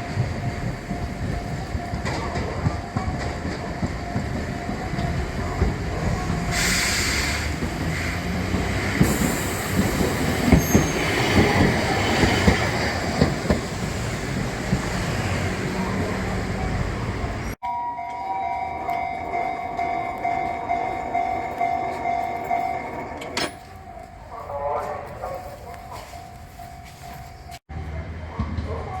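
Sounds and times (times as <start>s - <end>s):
wheels clacking over rail joints: 0.0s - 6.7s, 7.4s - 24.3s
train rumbling past: 0.0s - 29.0s.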